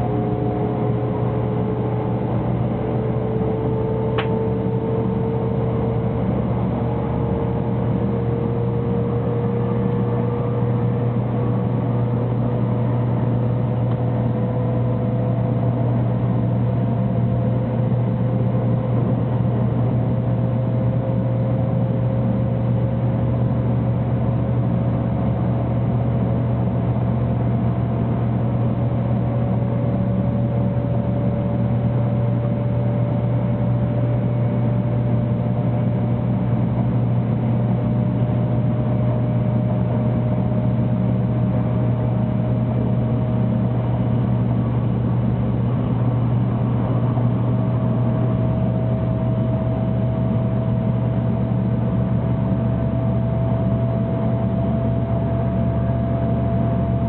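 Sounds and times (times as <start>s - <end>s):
train cabin low rumble: 0.0s - 57.0s.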